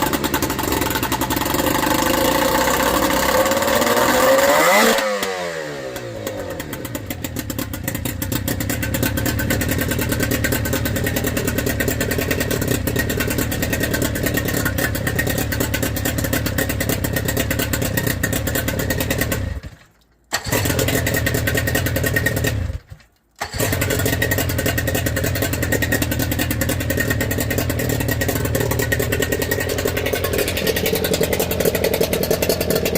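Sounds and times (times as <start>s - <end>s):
engine idling: 0.0s - 4.8s, 6.0s - 19.7s, 20.4s - 32.9s.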